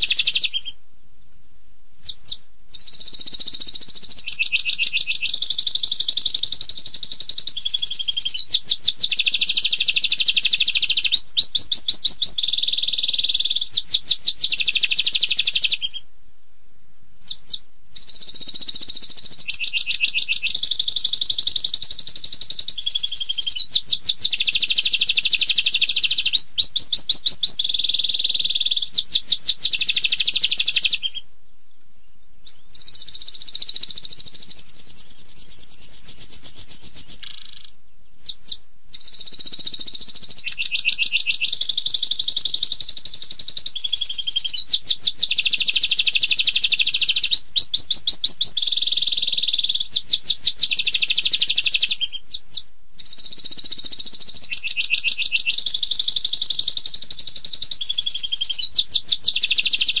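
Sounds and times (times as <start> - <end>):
canary singing trills: 0.0 - 0.8, 2.0 - 16.1, 17.2 - 60.0.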